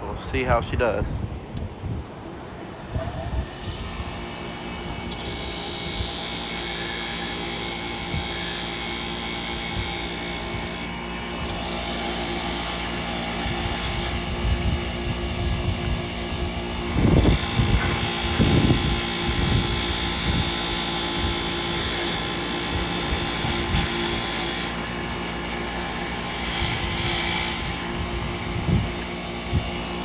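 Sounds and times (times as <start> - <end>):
grinder motor whine: 2.7 - 30.0.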